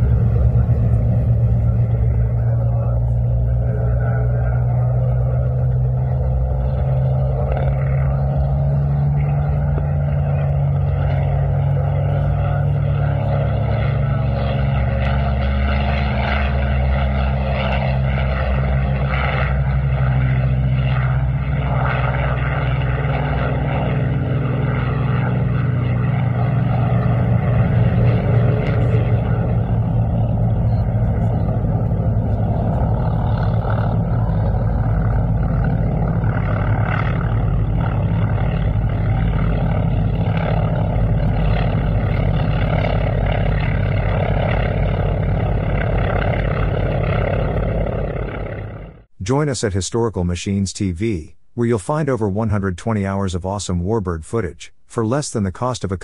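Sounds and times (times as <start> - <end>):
propeller plane engine drone: 0.0 - 56.0.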